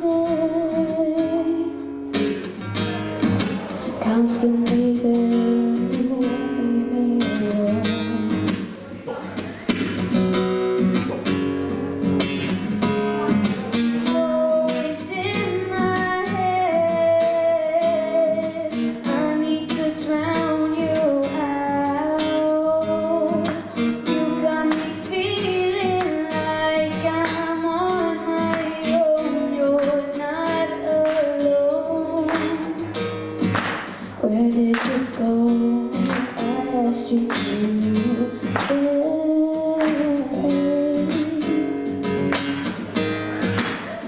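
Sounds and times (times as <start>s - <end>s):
person singing: 0.0s - 8.6s, 12.1s - 33.0s, 34.1s - 42.3s
acoustic guitar strumming: 0.0s - 44.0s.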